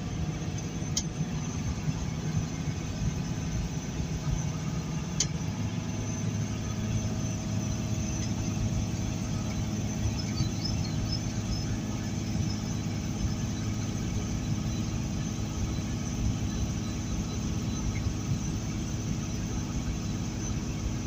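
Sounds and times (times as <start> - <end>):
truck engine drone: 0.0 - 21.0.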